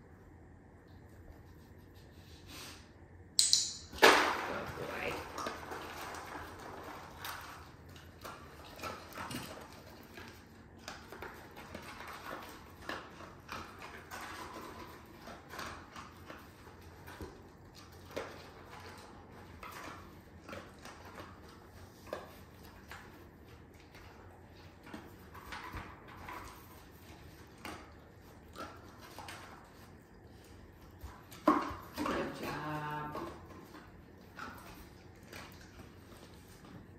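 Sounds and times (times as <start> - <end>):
dog crunching food: 4.0 - 36.9.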